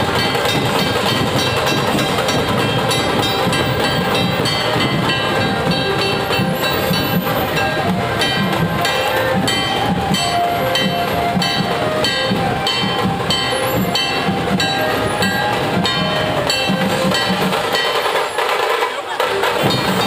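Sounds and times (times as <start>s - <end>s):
barrel drums beaten: 0.0s - 20.0s
metallic clashes: 0.0s - 20.0s.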